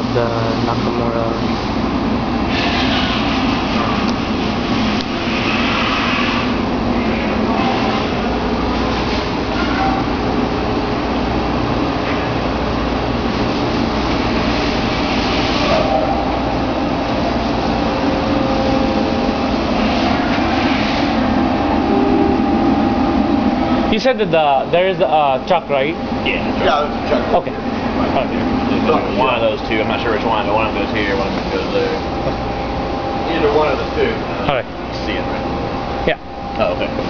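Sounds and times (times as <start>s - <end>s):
machine shop machinery droning: 0.0s - 37.0s.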